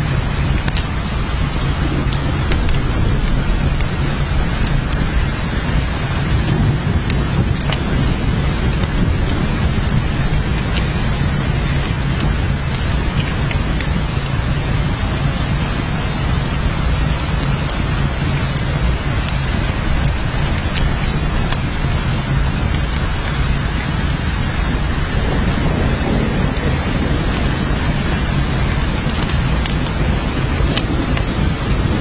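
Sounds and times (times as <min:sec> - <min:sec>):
drops ticking: 0:00.0 - 0:32.0
heavy rain hissing: 0:00.0 - 0:32.0
low rumble: 0:00.0 - 0:32.0.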